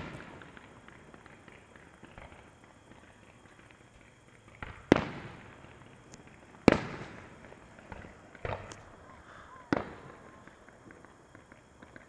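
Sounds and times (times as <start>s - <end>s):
small firework pops: 0.0s - 9.0s, 9.7s - 12.0s
fireworks bangs: 0.0s - 12.0s.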